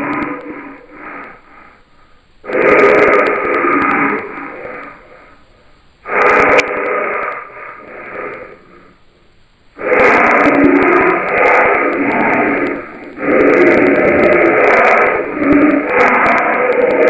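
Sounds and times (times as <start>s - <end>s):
harsh wheezy groaning creature calls: 0.0s - 1.8s, 2.4s - 5.4s, 6.0s - 9.0s, 9.8s - 17.0s.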